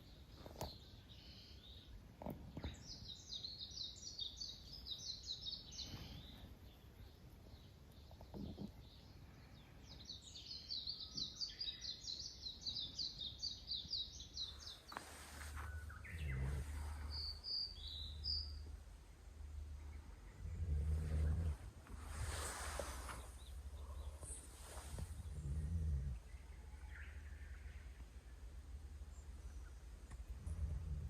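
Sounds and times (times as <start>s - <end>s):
bird chirps: 0.0s - 31.0s.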